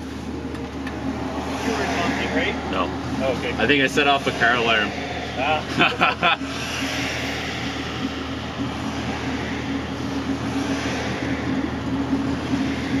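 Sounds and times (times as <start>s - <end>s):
unsilenced car engine idling: 0.0s - 13.0s.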